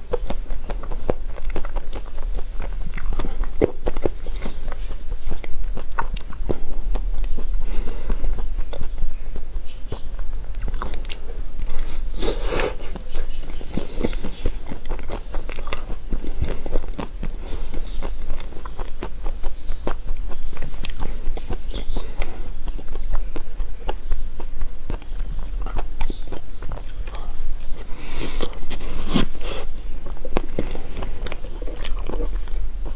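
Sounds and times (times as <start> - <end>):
mouth biting and chewing: 0.0 - 32.9
steady low hum: 0.0 - 32.9.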